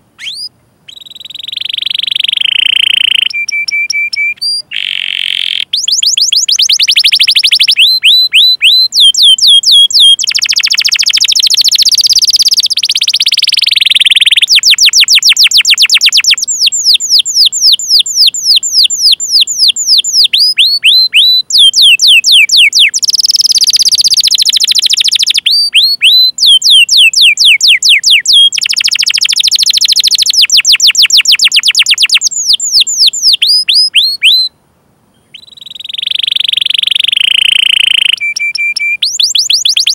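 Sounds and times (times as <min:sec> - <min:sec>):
canary singing: 0:00.2 - 0:39.9.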